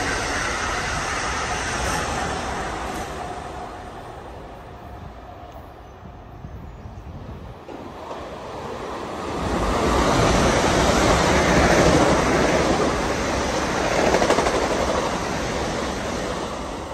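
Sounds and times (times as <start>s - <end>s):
electric train passing: 0.0s - 16.9s.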